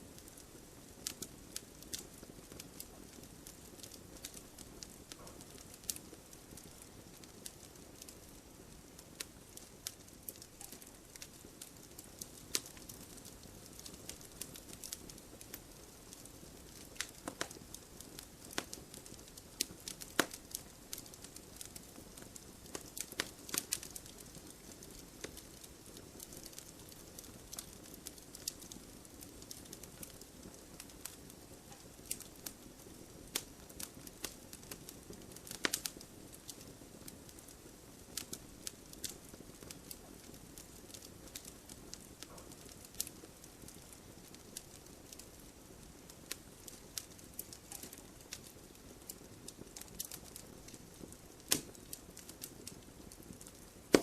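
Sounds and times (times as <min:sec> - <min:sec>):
firewood crackling in a stove: 0:00.0 - 0:54.0
low rustle of flame: 0:00.0 - 0:54.0.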